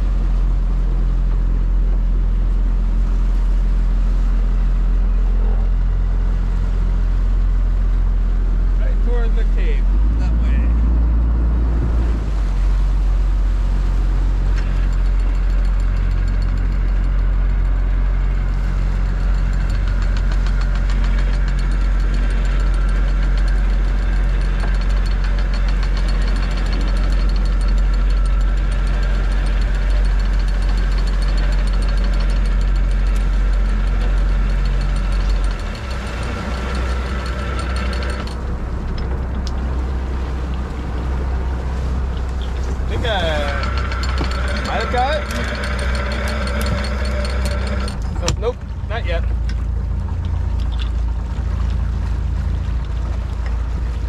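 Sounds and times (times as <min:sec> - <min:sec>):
boat engine running: 0:00.0 - 0:54.0
high whine: 0:00.0 - 0:54.0.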